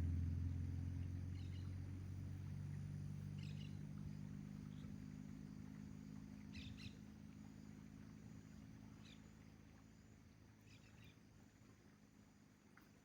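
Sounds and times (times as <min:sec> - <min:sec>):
faint low engine hum: 0:00.0 - 0:13.0.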